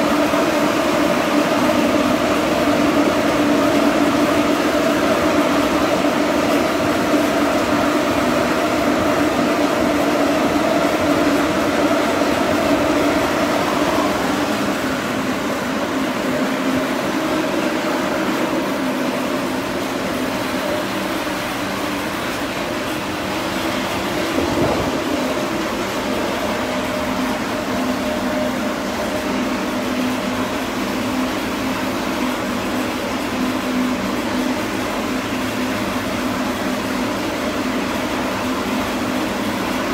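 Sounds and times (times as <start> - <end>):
electric blower fan humming: 0.0 - 39.9.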